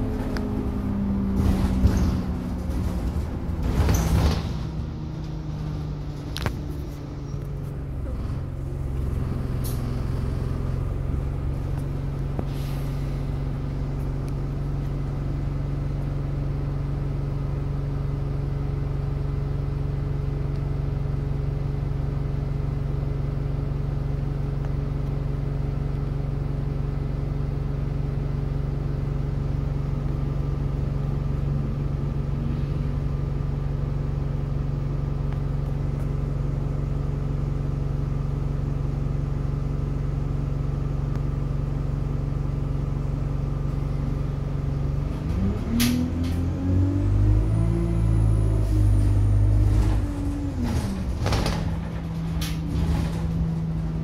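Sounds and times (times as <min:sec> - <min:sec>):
diesel bus engine idling: 0:00.0 - 0:46.6, 0:47.2 - 0:54.0.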